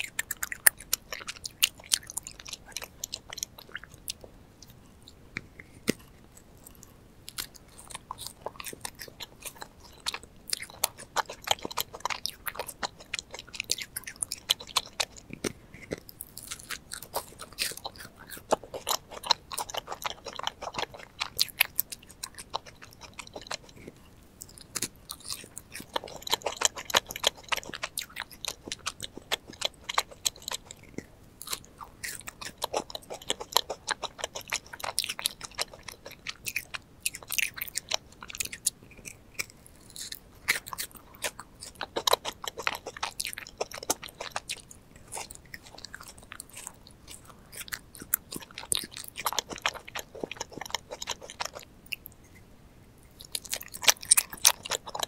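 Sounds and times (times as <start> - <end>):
biting and chewing macarons: 0.0 - 55.0.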